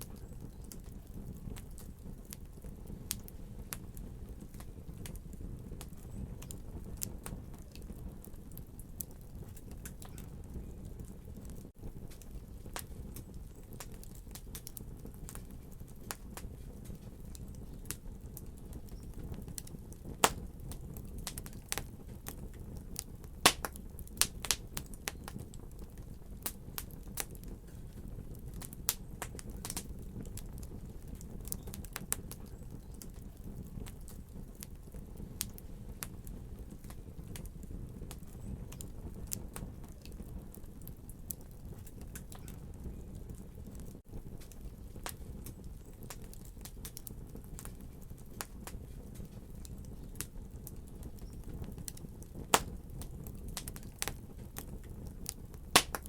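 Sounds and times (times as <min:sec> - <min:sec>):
flames rumbling in a fireplace: 0:00.0 - 0:56.0
wood fire popping and crackling: 0:00.0 - 0:56.0.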